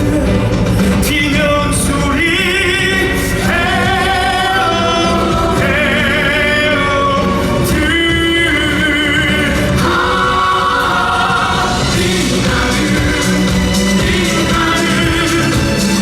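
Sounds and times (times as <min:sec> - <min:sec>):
instrumental accompaniment: 0:00.0 - 0:16.0
person singing with vibrato: 0:00.0 - 0:16.0.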